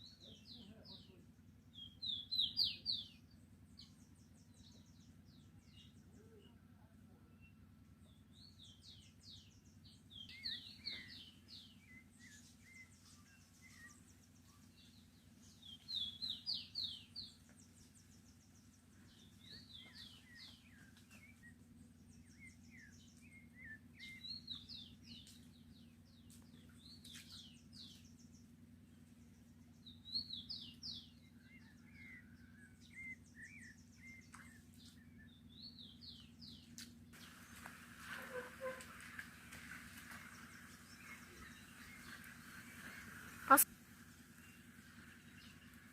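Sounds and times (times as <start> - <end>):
faint low hum: 0.0 - 45.9
songbird singing: 0.0 - 45.9.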